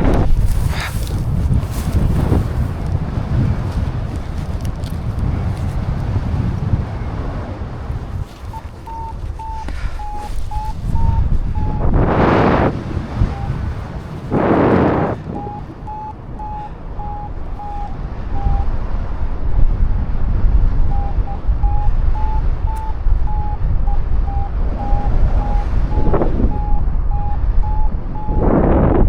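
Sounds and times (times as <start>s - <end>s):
wind buffeting microphone: 0.0s - 29.0s
variometer beeping: 1.9s - 18.8s, 20.8s - 29.0s.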